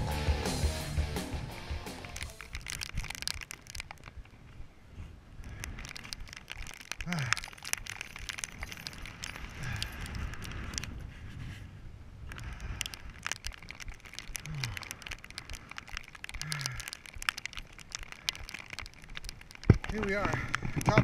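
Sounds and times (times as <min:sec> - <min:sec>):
wind rumble: 0:00.0 - 0:21.0
rain pattering on rain gear: 0:00.2 - 0:04.5, 0:05.4 - 0:11.0, 0:12.3 - 0:21.0.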